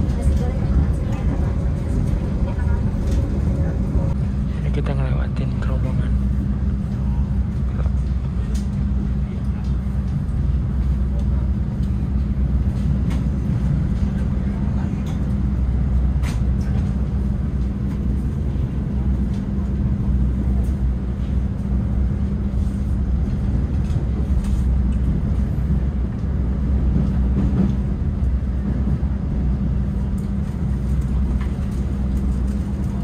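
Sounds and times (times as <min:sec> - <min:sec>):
train rumble inside carriage: 0:00.0 - 0:33.0.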